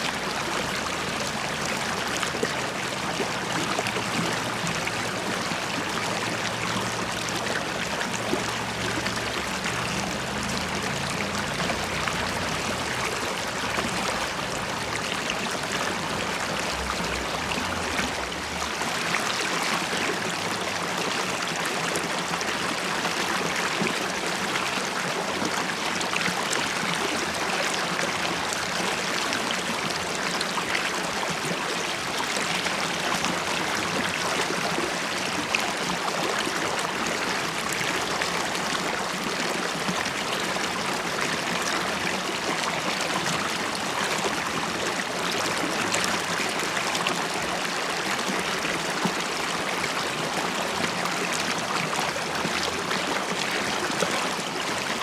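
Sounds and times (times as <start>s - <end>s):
river water over stones: 0.0s - 55.0s.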